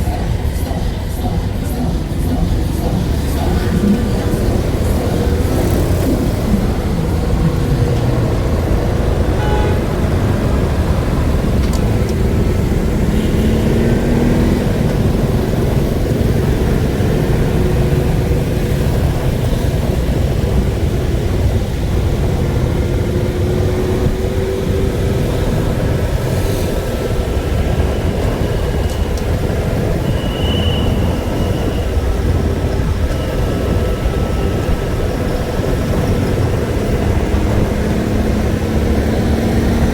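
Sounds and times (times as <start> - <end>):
road noise: 0.0 - 39.9
vehicle rumble: 0.0 - 39.9.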